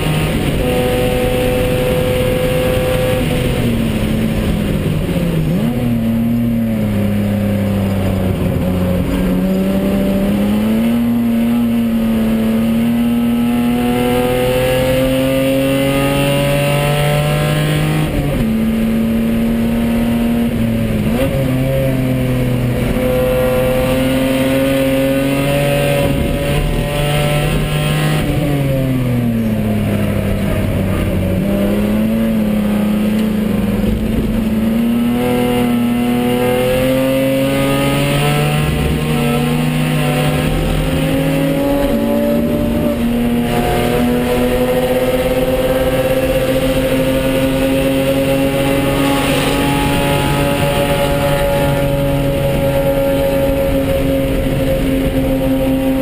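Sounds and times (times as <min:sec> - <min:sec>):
race car engine from inside cabin: 0:00.0 - 0:56.0.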